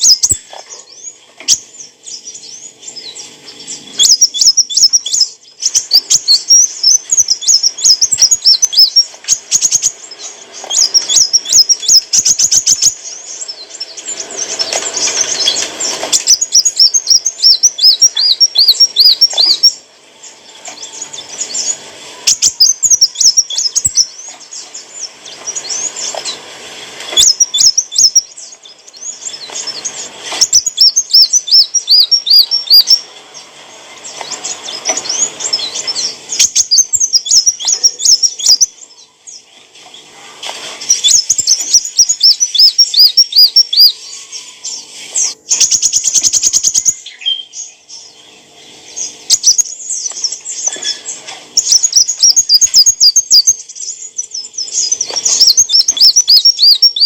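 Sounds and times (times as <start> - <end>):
bird chirping high thin notes: 0.0 - 19.8, 20.7 - 26.4, 27.1 - 38.8, 40.8 - 48.2, 48.8 - 57.0.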